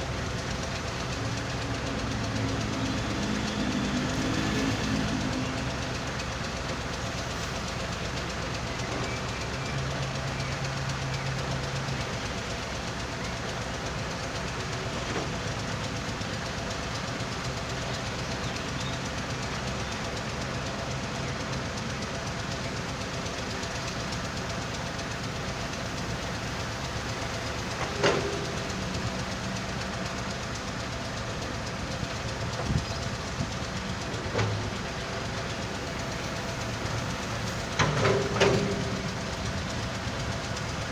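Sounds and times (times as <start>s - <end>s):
excavator engine: 0.0s - 40.9s
screening machine running: 0.0s - 40.9s.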